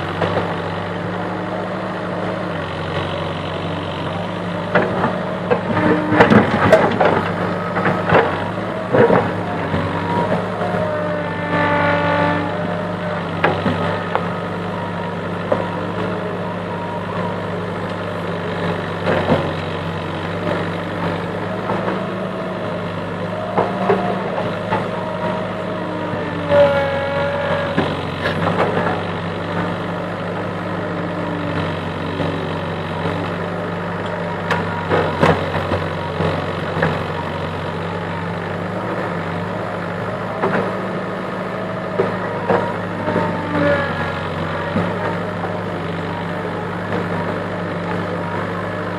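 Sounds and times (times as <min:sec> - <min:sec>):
diesel engine running: 0:00.0 - 0:48.9
hydraulics whining: 0:00.0 - 0:48.9.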